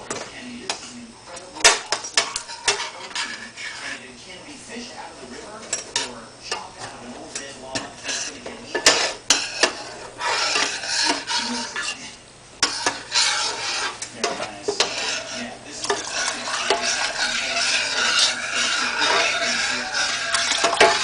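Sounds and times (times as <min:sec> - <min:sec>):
metal spoon scraping saucepan: 0:01.6 - 0:04.2, 0:05.0 - 0:21.0.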